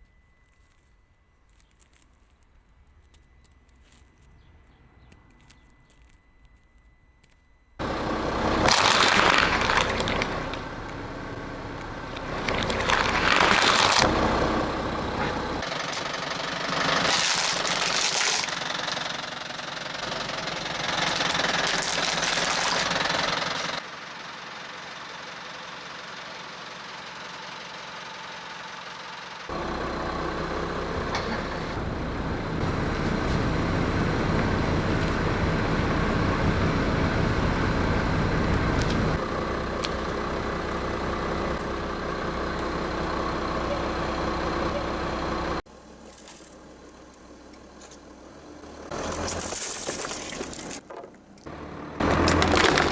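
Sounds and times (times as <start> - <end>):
car engine running: 7.8 - 52.9.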